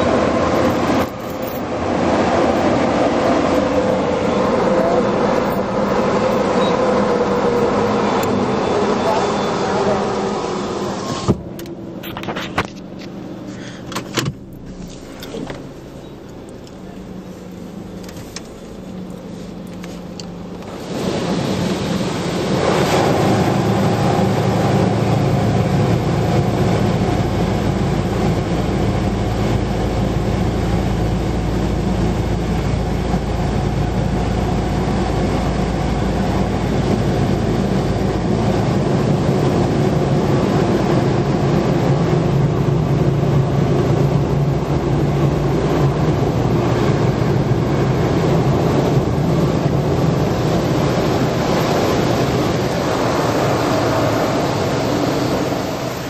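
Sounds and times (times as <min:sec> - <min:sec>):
water spraying on car: 0:00.0 - 0:12.4, 0:14.4 - 0:56.0
car wash machine drone: 0:00.0 - 0:56.0.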